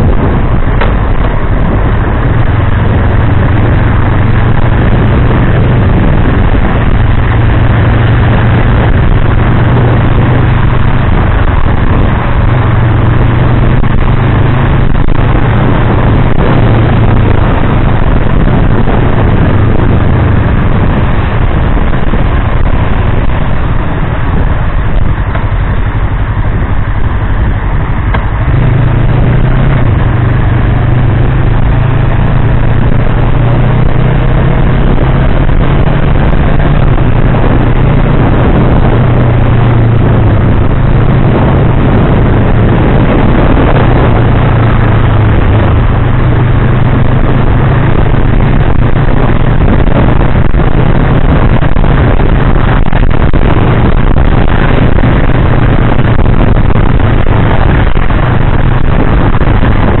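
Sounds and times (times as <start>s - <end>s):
motorcycle engine cruising: 0.0s - 60.0s
tyre noise on wet road: 0.0s - 60.0s
wind rush: 0.0s - 60.0s.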